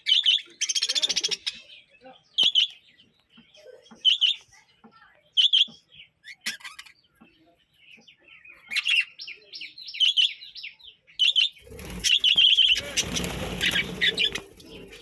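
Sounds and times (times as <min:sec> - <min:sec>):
budgies chirping and chattering: 0:00.0 - 0:15.0.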